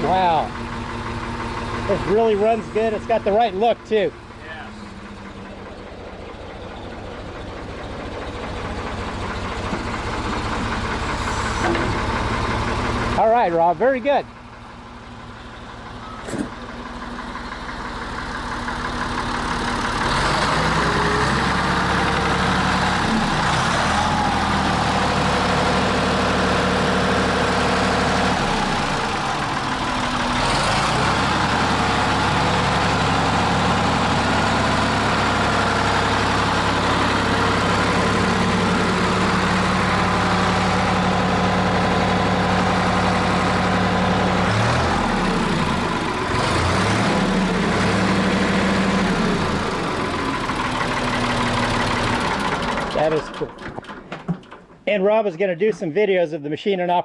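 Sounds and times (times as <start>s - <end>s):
backhoe engine running: 0.0s - 56.4s.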